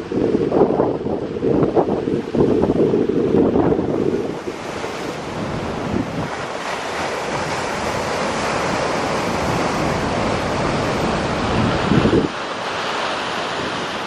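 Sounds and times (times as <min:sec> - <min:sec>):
wind buffeting microphone: 0:00.0 - 0:14.0
surf breaking against seawall: 0:02.4 - 0:14.0.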